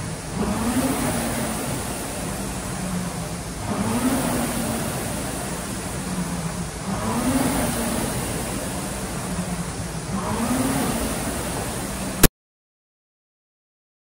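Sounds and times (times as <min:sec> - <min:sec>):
rowing machine fan whirring: 0:00.0 - 0:12.3.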